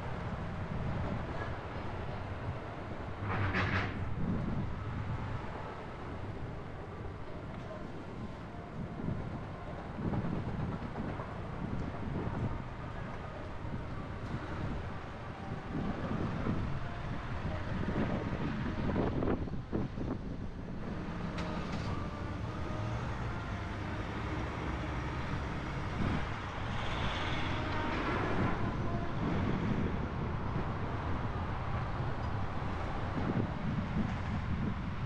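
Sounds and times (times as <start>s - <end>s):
car engine and road noise: 0.0s - 35.0s
wind on microphone: 0.1s - 6.8s, 7.4s - 35.0s.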